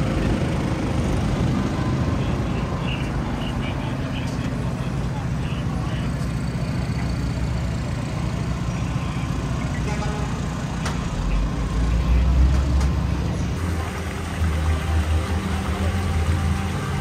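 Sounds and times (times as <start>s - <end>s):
heavy vehicle low rumble: 0.0s - 17.0s
motor engines rumbling: 0.0s - 17.0s.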